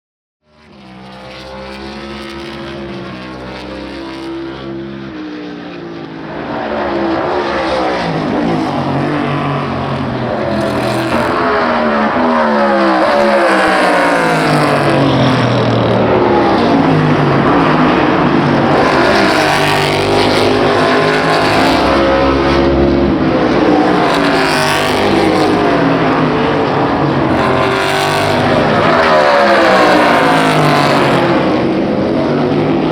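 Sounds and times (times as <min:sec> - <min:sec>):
race cars passing at full throttle: 0:00.4 - 0:32.9.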